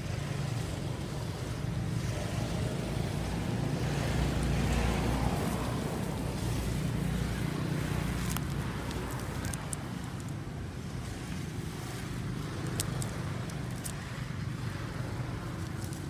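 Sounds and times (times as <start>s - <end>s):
outdoor noise: 0.0s - 16.0s.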